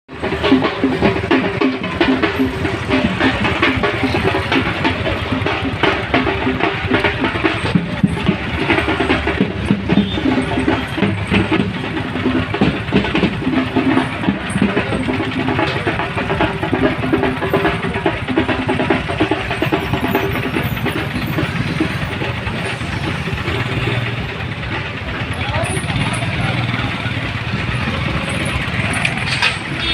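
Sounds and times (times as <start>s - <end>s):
vehicle engine running: 0.1s - 29.9s.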